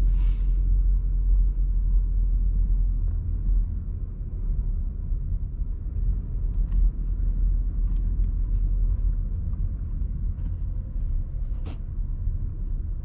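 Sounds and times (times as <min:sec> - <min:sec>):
car cabin engine and tyre rumble: 0:00.0 - 0:13.0.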